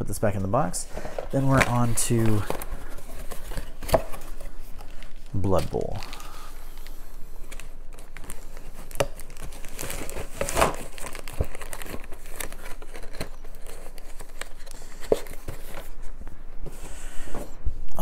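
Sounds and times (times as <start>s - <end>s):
plastic packaging crinkling: 1.2s - 16.2s.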